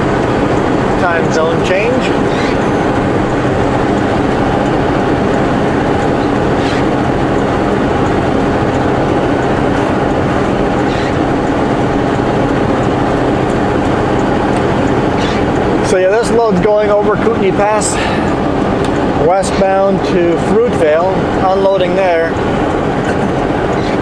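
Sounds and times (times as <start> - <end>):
road noise: 0.0 - 24.0
truck diesel engine running: 0.0 - 24.0.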